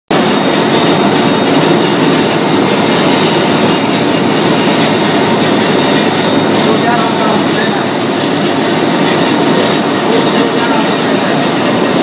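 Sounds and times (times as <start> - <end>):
machine running with high whine: 0.1 - 12.0.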